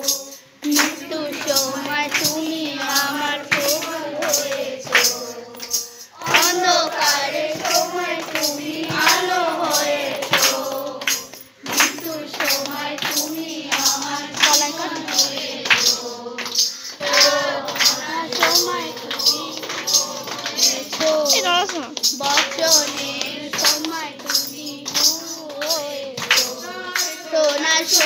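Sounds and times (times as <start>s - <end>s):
congregation singing a devotional song: 0.0s - 28.0s
steady percussion beat: 0.0s - 28.0s.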